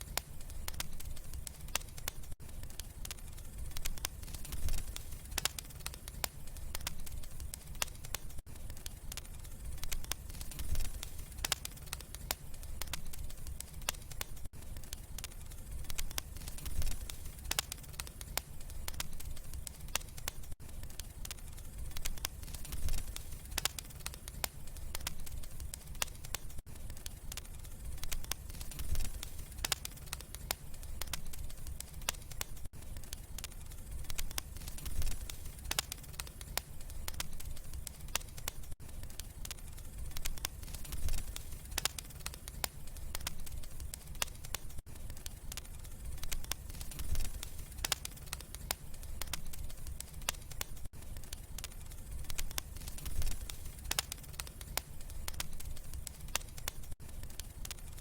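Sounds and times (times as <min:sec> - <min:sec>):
fire pops and snaps: 0:00.0 - 0:58.0
wood fire crackling: 0:00.0 - 0:58.0.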